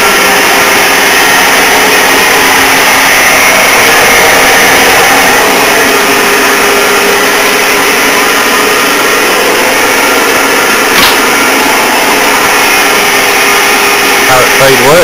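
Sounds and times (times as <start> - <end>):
lathe drive whirring: 0.0 - 15.0.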